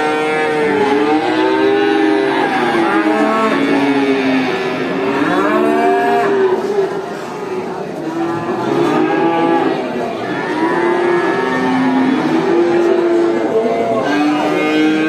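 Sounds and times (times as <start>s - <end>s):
cows mooing: 0.0s - 7.0s, 8.0s - 15.0s.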